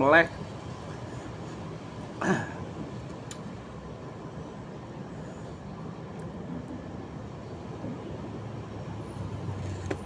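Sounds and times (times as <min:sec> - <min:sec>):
background traffic rumble: 0:00.0 - 0:10.0.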